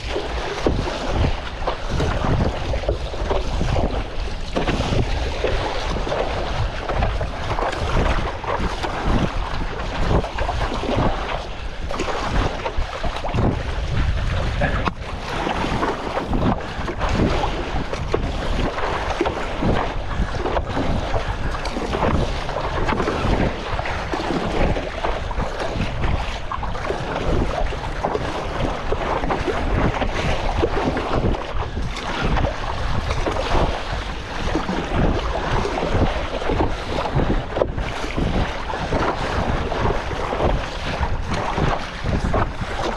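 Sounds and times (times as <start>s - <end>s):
water slapping paddleboard: 0.0s - 42.9s
wind buffeting microphone: 0.0s - 42.9s.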